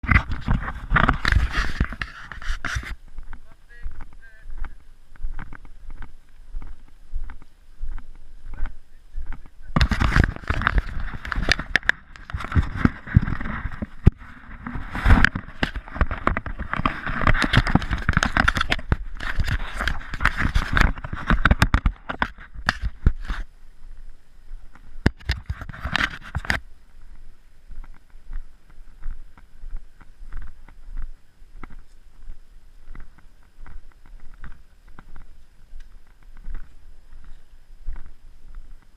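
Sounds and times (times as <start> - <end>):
close rustling and scraping: 0.0 - 38.9
crackles and knocks: 0.0 - 38.9.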